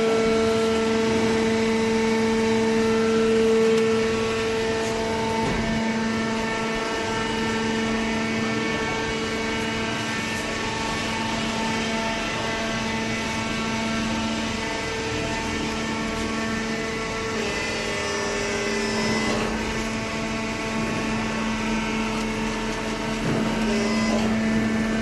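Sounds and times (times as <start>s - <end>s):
baler motor humming: 0.0s - 25.0s.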